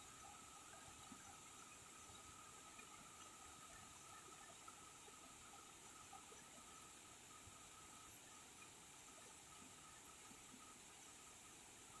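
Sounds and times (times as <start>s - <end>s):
faint waterfall hiss: 0.0s - 12.0s.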